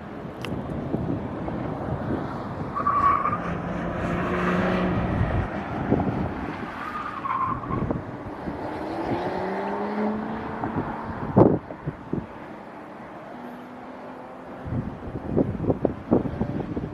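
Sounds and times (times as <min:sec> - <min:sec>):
car road and wind noise: 0:00.0 - 0:16.9
tires squealing: 0:01.4 - 0:16.9.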